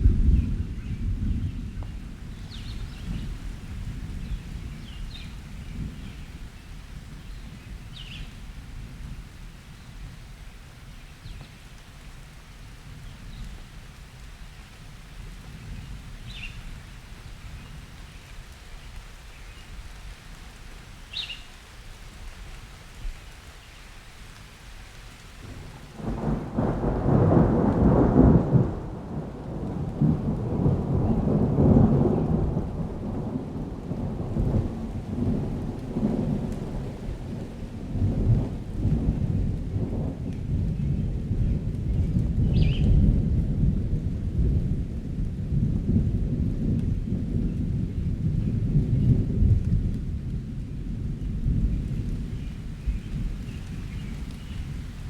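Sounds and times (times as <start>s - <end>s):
thunder rumbling: 0.0s - 12.0s, 12.8s - 18.6s, 25.3s - 55.0s
steady rain: 0.0s - 55.0s.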